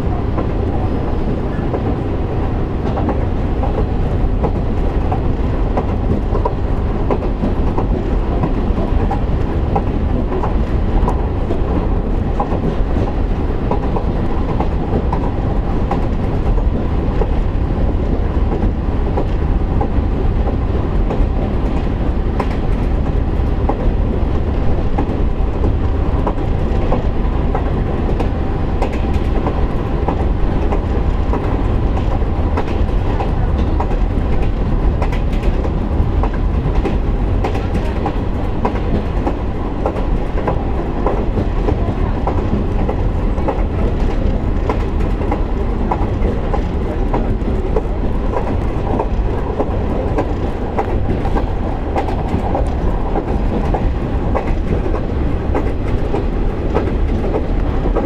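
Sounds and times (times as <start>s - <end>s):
train interior rumble: 0.0s - 58.0s
wheels clicking over rail joints: 2.7s - 58.0s.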